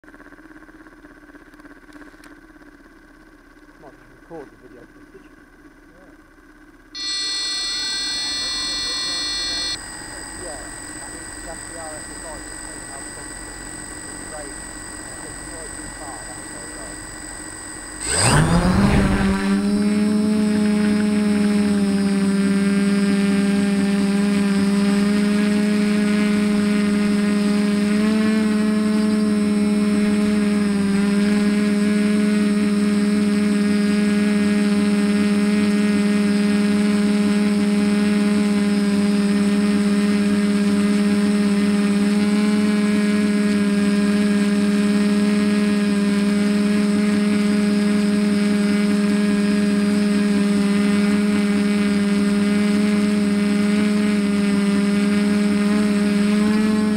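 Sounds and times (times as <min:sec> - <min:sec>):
quadcopter motors humming: 0:00.1 - 0:56.9.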